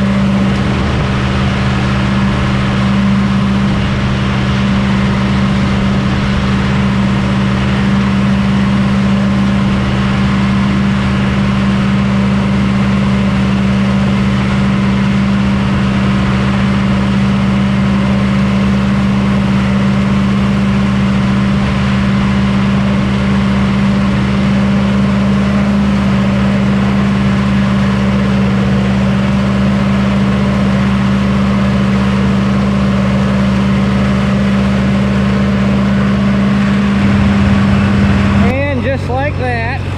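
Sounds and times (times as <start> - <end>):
combine engine droning: 0.0 - 39.9.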